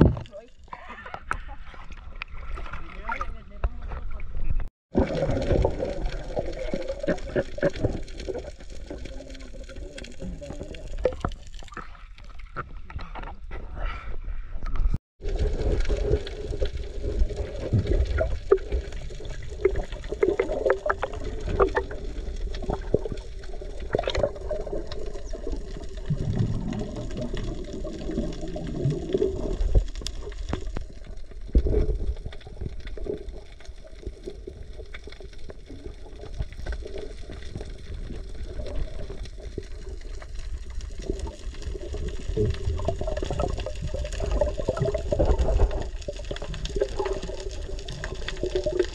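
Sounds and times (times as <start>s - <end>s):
muffled underwater water wash: 0.0s - 14.0s, 15.2s - 48.9s
low underwater rumble: 0.0s - 48.9s
small underwater clicks and crackles: 0.0s - 48.9s.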